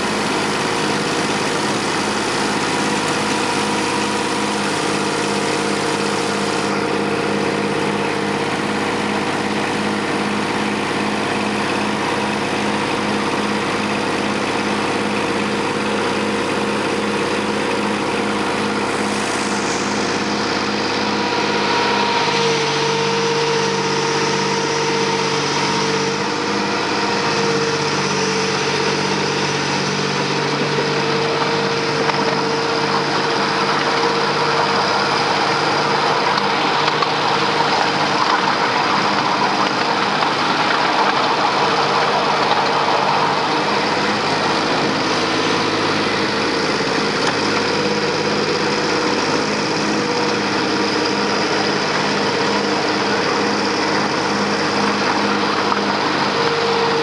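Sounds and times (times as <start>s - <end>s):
miniature locomotive engine running: 0.0s - 57.0s
wheels rushing on track: 0.0s - 57.0s.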